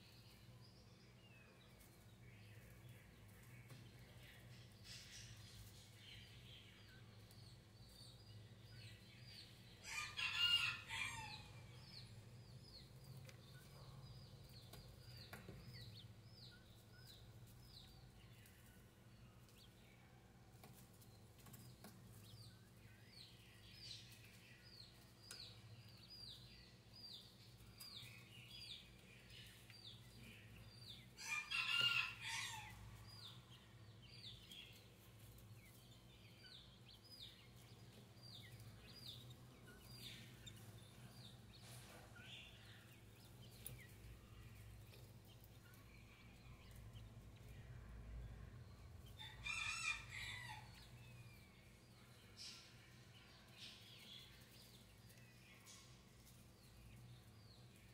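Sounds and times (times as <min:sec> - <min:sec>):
quail chicks peeping: 0:00.0 - 0:57.9.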